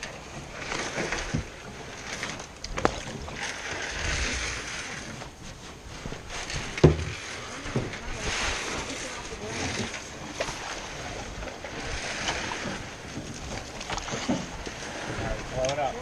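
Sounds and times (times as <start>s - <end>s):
paddle knocking against canoe: 0.0s - 5.4s, 6.0s - 8.7s, 9.5s - 15.9s
paddle splashing in water: 0.0s - 16.0s.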